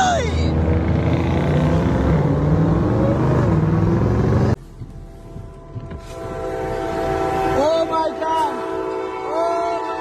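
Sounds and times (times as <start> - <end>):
vehicle engine and road rumble: 0.0 - 9.2.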